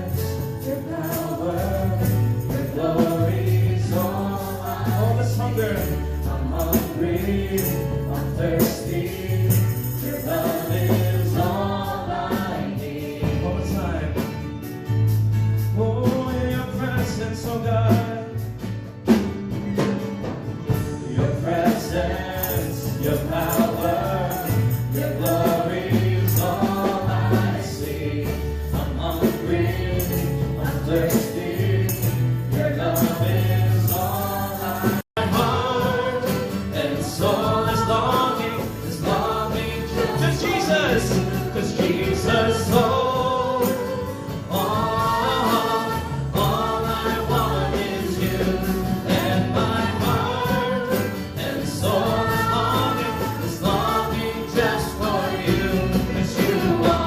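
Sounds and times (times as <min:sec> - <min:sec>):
choir singing: 0:00.0 - 0:13.7, 0:21.1 - 0:57.0
tambourine shaking: 0:00.0 - 0:18.8, 0:20.6 - 0:57.0
band with bass and keys: 0:00.0 - 0:57.0.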